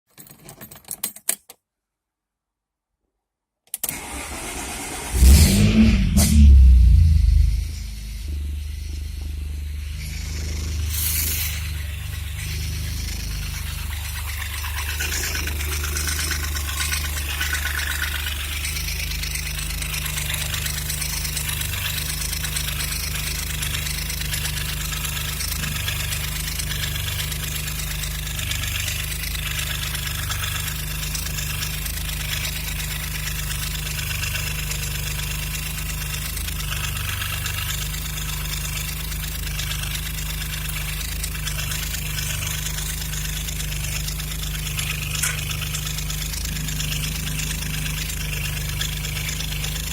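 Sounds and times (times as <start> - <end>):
car engine idling: 3.9 - 49.9.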